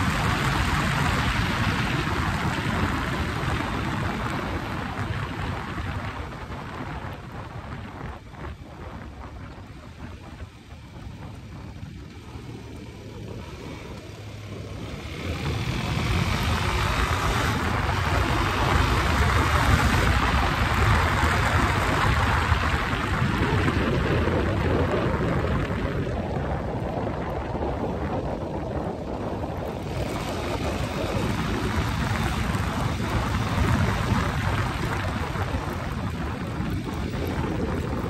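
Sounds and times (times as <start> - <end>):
motorcycle engine drone: 0.0 - 38.0
wind rushing over microphone: 0.0 - 38.0.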